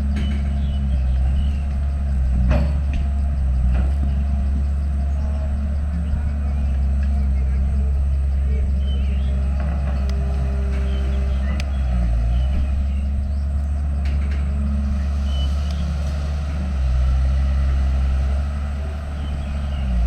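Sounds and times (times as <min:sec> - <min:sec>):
heavy machine diesel engine: 0:00.0 - 0:20.0.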